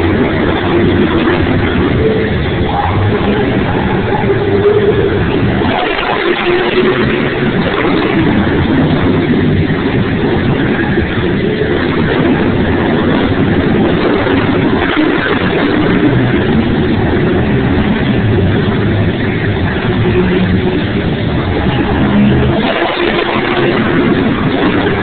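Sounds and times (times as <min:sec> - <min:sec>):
monster truck engine running: 0:00.0 - 0:25.0.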